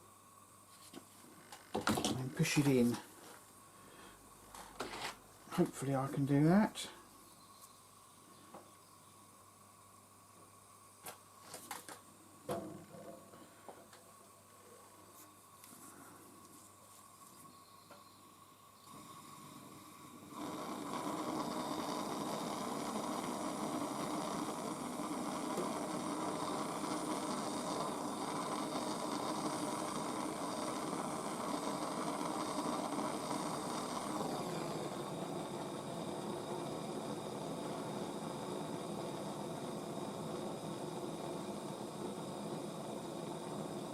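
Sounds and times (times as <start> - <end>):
gas torch flame hissing: 0.0 - 43.9.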